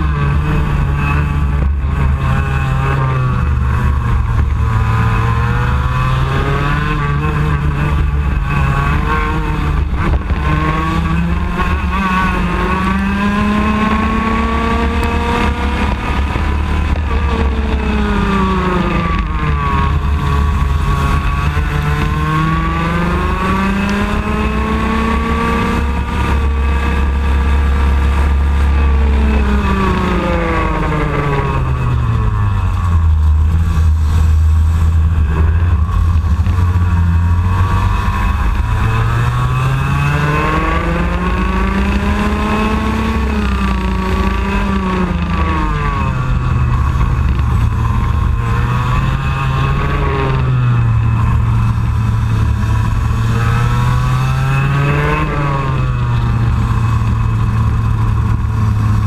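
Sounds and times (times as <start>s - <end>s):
two-stroke kart engine racing: 0.0s - 59.0s.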